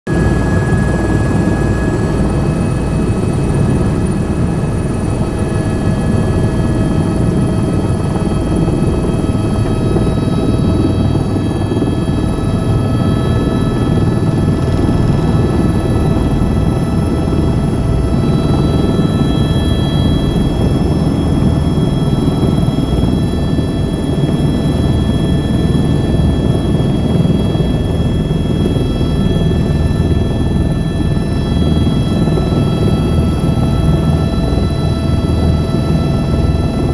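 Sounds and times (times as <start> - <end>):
helicopter engine and rotors: 0.1 - 36.9.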